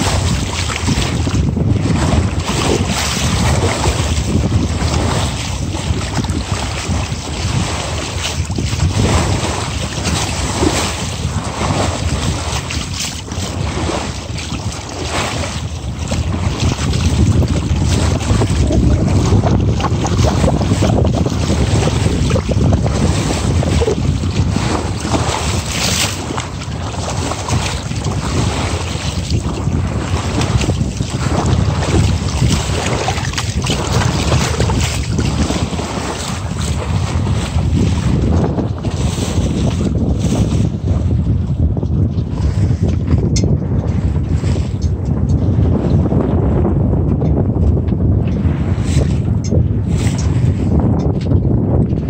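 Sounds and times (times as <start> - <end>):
water splashing along boat hull: 0.0 - 52.0
wind buffeting microphone: 0.0 - 52.0.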